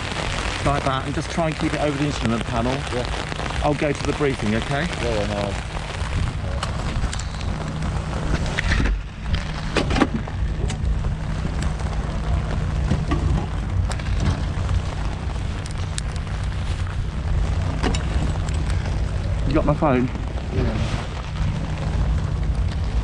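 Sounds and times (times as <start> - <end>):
rain drops tapping: 0.0 - 23.0
steady low rumble: 0.0 - 23.0.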